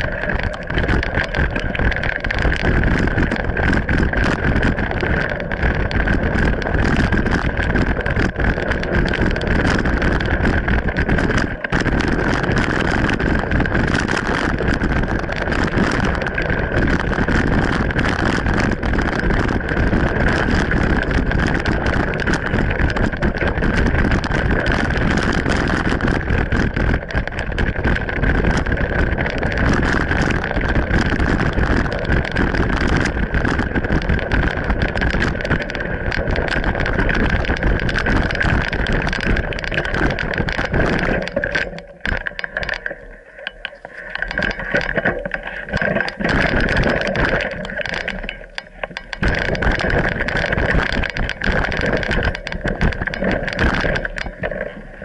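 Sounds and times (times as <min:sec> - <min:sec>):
bike rattling over stones: 0:00.0 - 0:55.0
steady high hum: 0:00.0 - 0:55.0
wind on microphone: 0:00.0 - 0:55.0.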